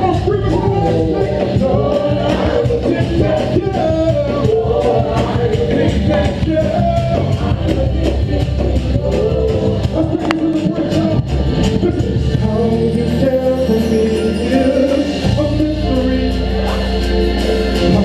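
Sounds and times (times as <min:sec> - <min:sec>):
voices singing over a beat: 0:00.0 - 0:18.0.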